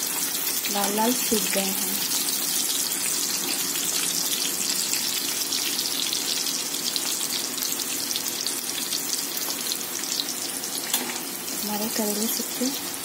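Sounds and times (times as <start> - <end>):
vegetables frying in hot oil: 0.0 - 13.0.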